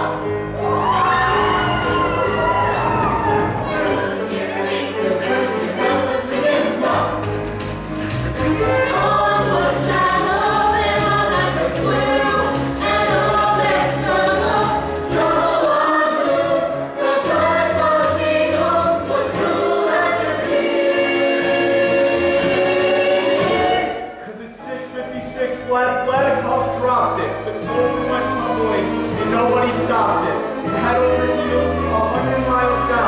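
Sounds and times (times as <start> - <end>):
chorus singing: 0.0 - 33.0
instrumental accompaniment: 0.0 - 33.0.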